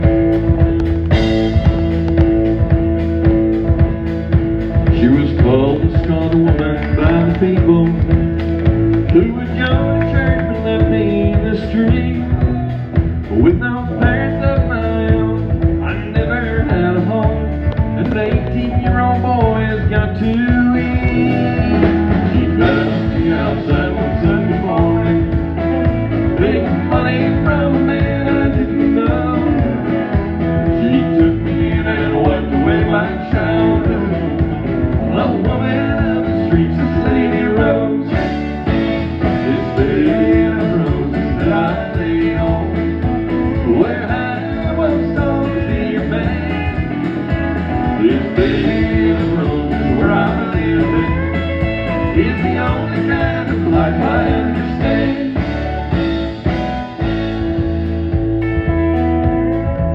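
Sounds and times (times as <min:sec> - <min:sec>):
country song with men singing: 0:00.0 - 0:58.2.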